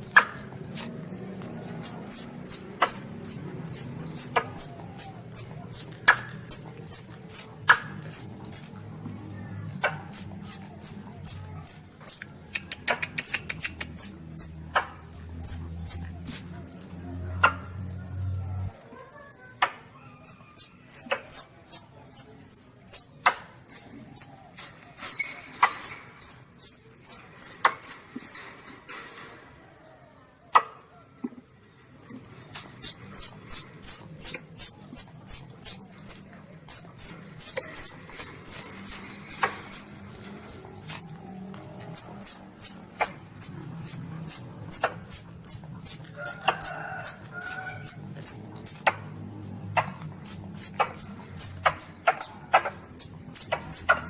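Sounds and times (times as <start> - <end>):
civet kitten squeaking: 0.0 - 1.0, 1.8 - 8.8, 10.1 - 16.5, 20.0 - 29.2, 32.5 - 41.1, 41.8 - 48.9, 50.0 - 54.0.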